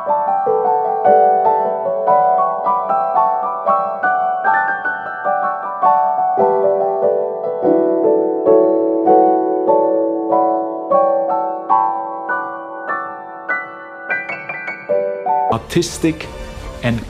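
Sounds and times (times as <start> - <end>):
piano playing repeated notes: 0.0 - 17.0.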